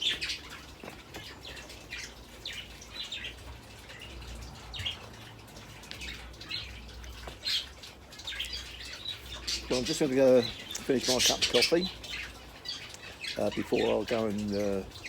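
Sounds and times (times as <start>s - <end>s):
birds chirping and singing: 0.0s - 15.0s.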